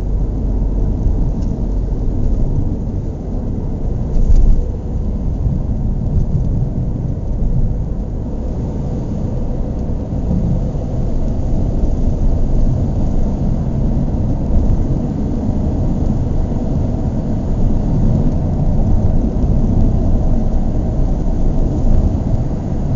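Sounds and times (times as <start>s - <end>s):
car engine running: 0.0s - 22.9s.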